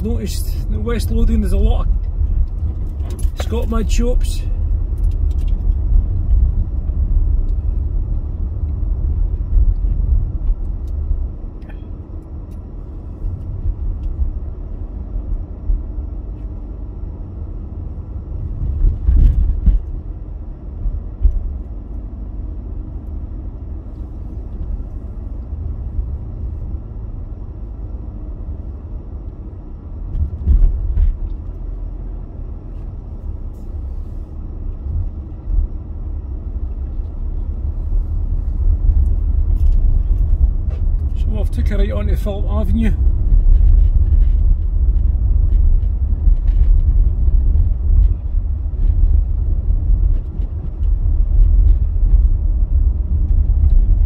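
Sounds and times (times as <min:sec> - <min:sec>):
car engine and road rumble: 0:00.0 - 0:54.0
road bumps: 0:00.0 - 0:54.0.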